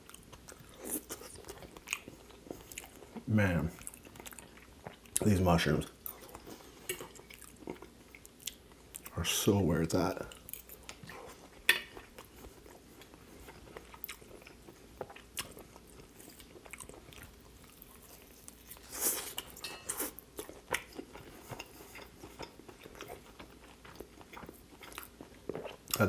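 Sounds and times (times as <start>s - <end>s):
person chewing: 0.0s - 5.4s, 6.0s - 9.1s, 10.2s - 26.0s.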